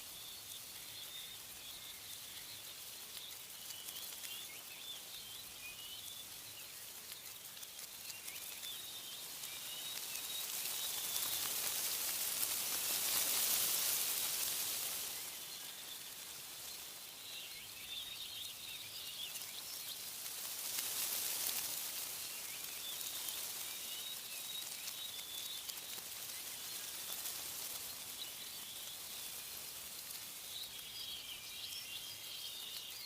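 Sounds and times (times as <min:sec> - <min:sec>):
small birds chirping: 0:00.0 - 0:33.0
wind gusting through trees: 0:00.0 - 0:33.0.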